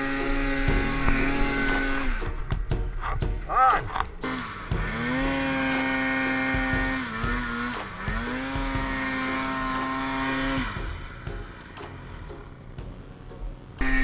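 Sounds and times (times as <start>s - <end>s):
snowmobile engine revving: 0.0s - 2.5s, 3.5s - 13.2s, 13.8s - 14.0s.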